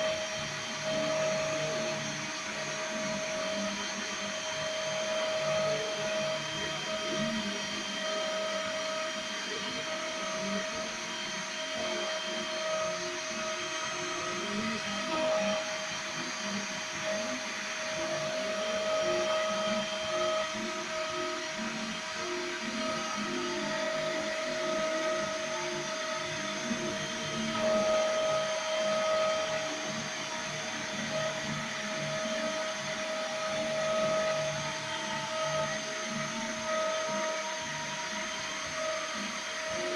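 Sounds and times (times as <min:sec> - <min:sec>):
milling spindle high whine: 0:00.0 - 0:39.9.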